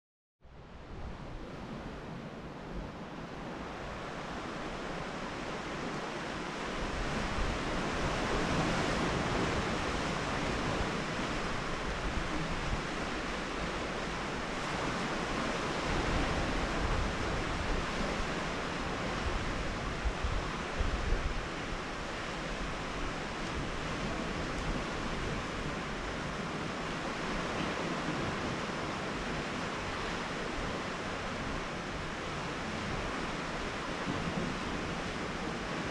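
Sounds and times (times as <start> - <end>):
wind buffeting the microphone: 0.6 - 35.9
surf washing against rocky shore: 3.2 - 35.9.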